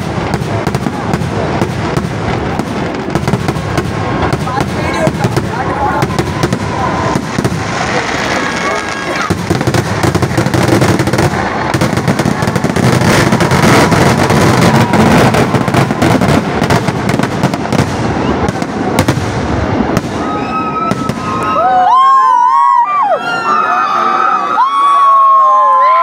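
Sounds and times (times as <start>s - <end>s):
fireworks bursting and crackling: 0.0s - 23.1s
people shouting and cheering: 3.2s - 19.1s, 19.8s - 26.0s.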